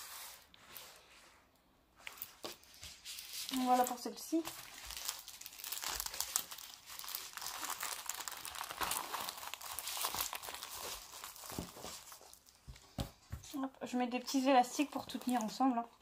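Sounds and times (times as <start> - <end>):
paper and plastic crinkling: 2.0 - 13.3, 14.1 - 16.0.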